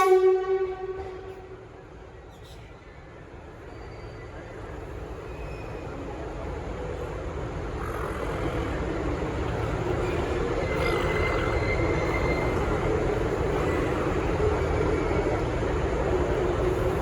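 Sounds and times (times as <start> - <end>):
diesel train engine and wheel rumble: 0.0 - 17.0.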